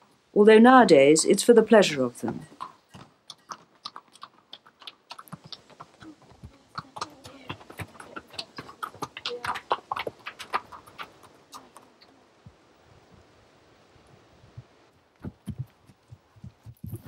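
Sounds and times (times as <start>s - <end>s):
horse hooves on stones: 1.8s - 13.3s, 14.0s - 17.0s.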